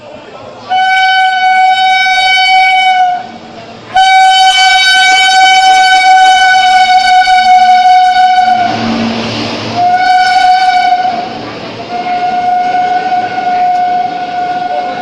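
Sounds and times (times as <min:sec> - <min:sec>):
locomotive horn blasts: 0:00.7 - 0:08.9, 0:09.8 - 0:15.0.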